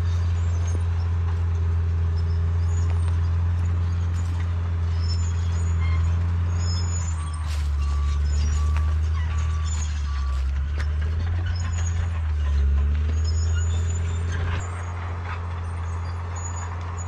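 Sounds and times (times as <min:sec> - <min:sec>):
bulldozer diesel engine drone: 0:00.0 - 0:17.0.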